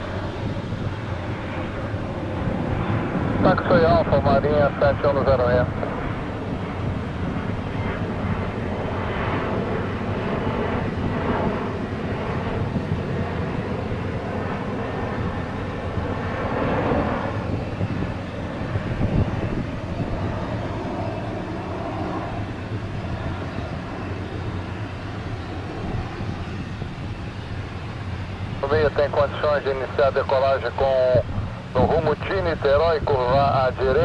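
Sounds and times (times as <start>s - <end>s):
jet engines drone: 0.0s - 34.0s.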